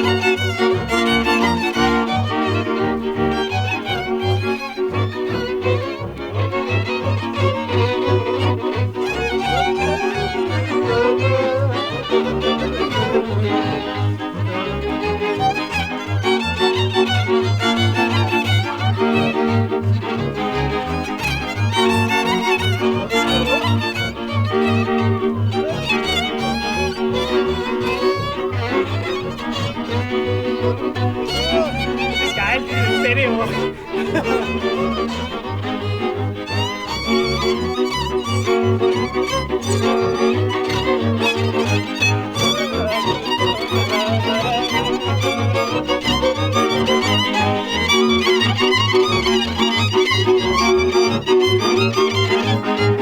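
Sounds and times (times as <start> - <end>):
bowed chords: 0.0 - 53.0
bowed double bass: 0.0 - 53.0
fiddle melody: 0.0 - 53.0.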